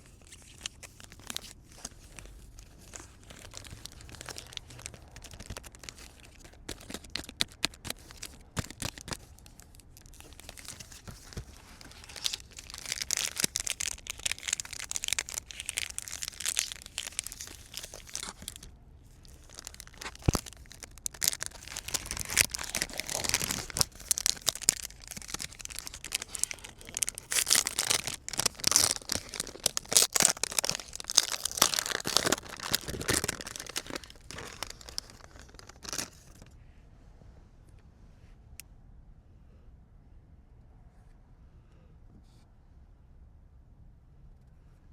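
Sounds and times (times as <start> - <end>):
card pack wrappers crinkling: 0.0 - 36.5.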